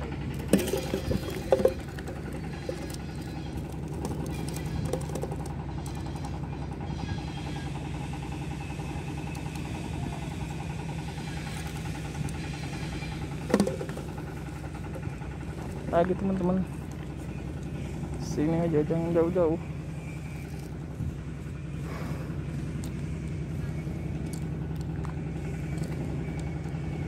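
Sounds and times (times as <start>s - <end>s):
motor droning: 0.0s - 27.0s.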